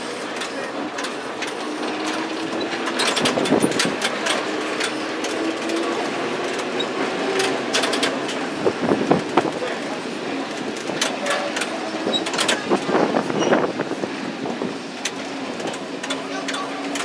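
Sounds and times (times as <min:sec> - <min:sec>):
tram motor whine: 0:00.0 - 0:17.0
tram running noise: 0:00.0 - 0:17.0
wheels clicking and rattling: 0:00.0 - 0:17.0.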